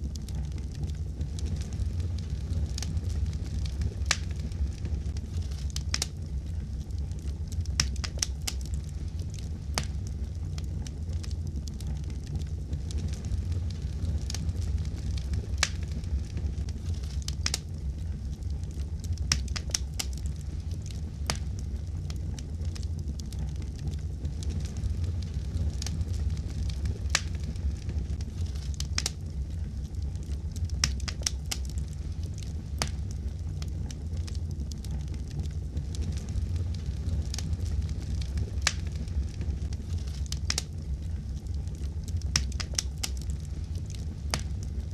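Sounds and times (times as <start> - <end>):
fire rumbling: 0.0 - 44.9
wood fire popping and snapping: 0.0 - 44.9.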